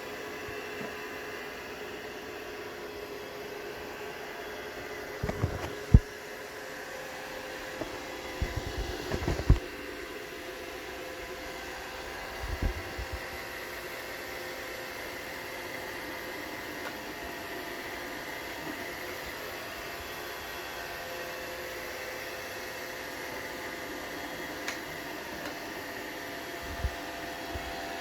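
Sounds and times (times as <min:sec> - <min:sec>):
robot vacuum motor hum: 0:00.3 - 0:28.0.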